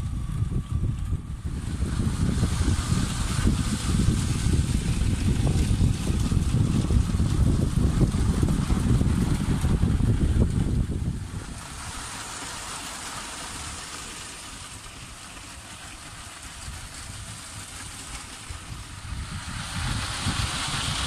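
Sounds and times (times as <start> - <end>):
distant toy trains running: 0.0 - 21.0
toy train wheels and motor rumbling: 0.0 - 21.0.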